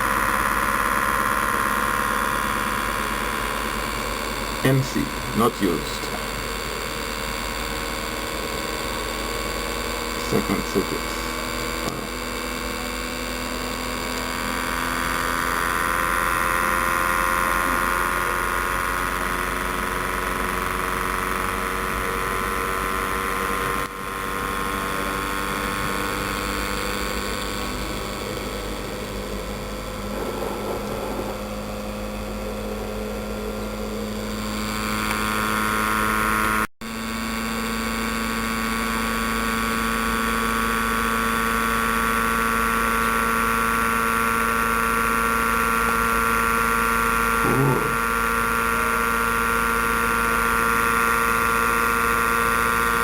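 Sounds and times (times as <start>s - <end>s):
small machine humming and whining: 0.0s - 53.0s.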